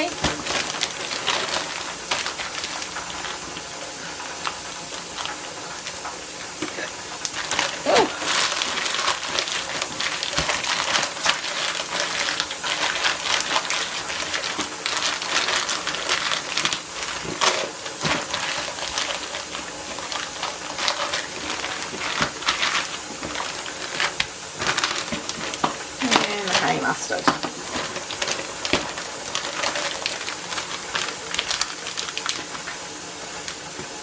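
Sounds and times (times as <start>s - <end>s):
plastic bags rustling and clicking: 0.0s - 34.0s.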